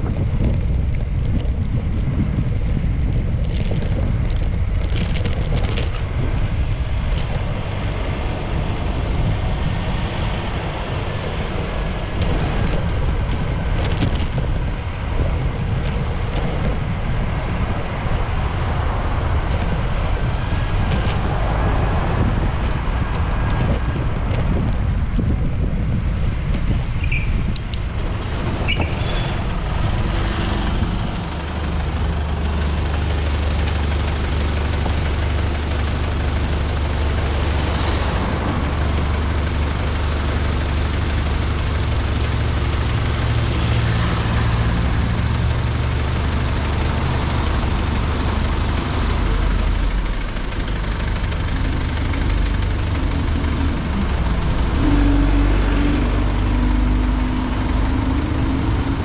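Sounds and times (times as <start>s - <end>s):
heavy vehicle engine hum: 0.0s - 59.0s
road noise: 0.0s - 59.0s
street traffic: 0.0s - 59.0s
wind noise: 0.0s - 59.0s.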